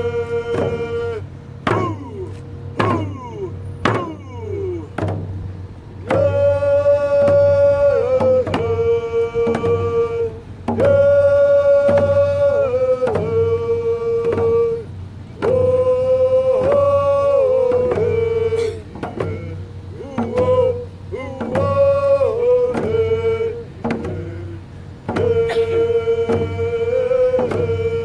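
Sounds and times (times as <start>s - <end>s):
person singing long notes: 0.0s - 4.9s, 6.0s - 28.0s
steady drumbeat: 0.0s - 14.8s, 15.4s - 28.0s.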